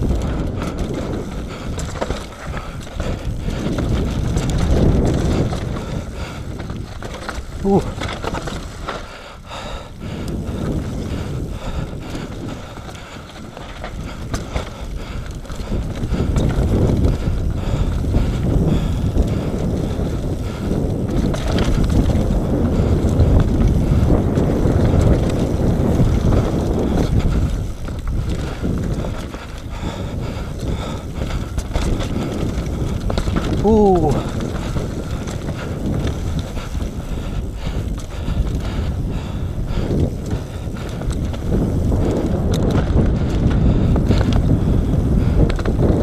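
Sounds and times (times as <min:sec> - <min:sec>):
bike rattling over ground: 0:00.0 - 0:46.0
tyre rumble: 0:00.0 - 0:46.0
wind buffeting microphone: 0:00.0 - 0:46.0.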